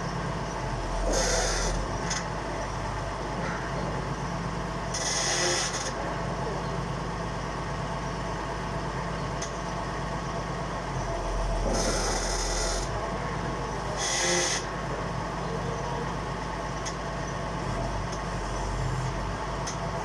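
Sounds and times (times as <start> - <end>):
drilling rig engine running: 0.0 - 20.0.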